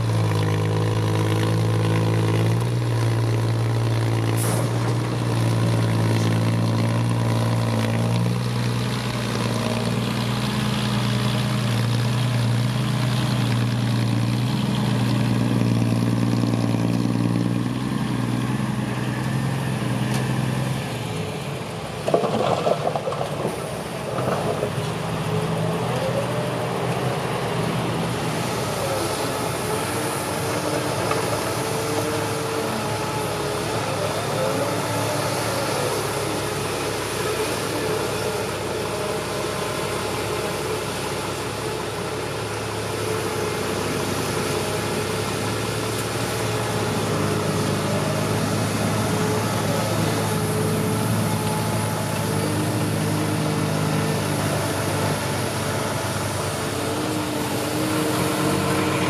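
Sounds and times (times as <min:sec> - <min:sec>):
excavator engine running: 0:00.0 - 0:59.0
heavy diesel truck engines: 0:00.0 - 0:59.0.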